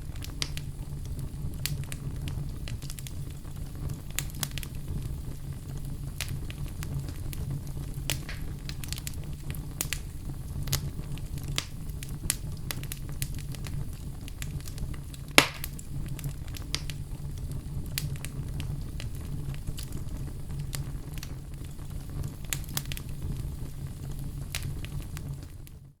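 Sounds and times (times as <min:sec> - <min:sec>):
low steady rumble: 0:00.0 - 0:25.7
wood fire crackling: 0:00.0 - 0:26.0.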